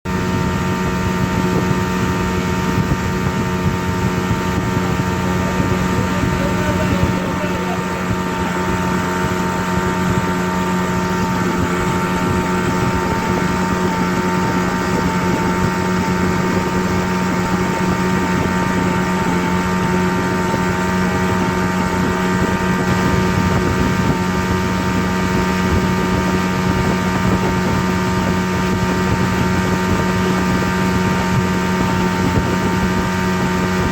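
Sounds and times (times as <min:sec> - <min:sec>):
steady rushing drone: 0:00.1 - 0:33.9.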